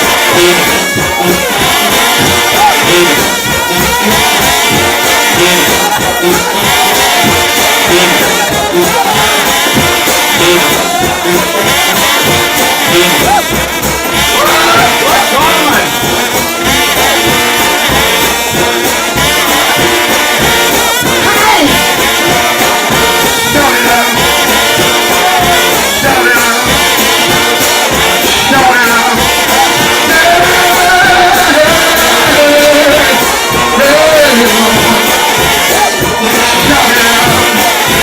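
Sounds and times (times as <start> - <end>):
trombone band playing: 0.0 - 38.0.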